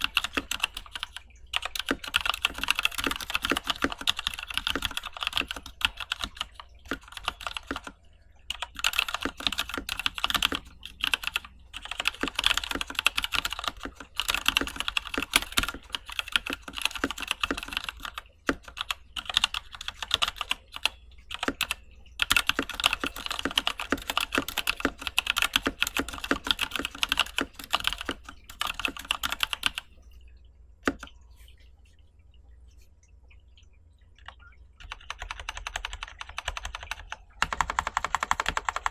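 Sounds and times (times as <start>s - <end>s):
mechanical keyboard typing: 0.0s - 29.9s, 34.8s - 38.9s.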